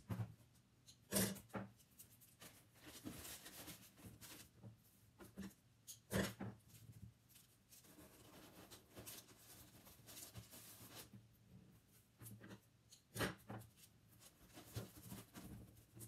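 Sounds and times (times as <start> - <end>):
soft rustling and handling: 1.6 - 5.8, 6.5 - 12.8, 13.5 - 16.0.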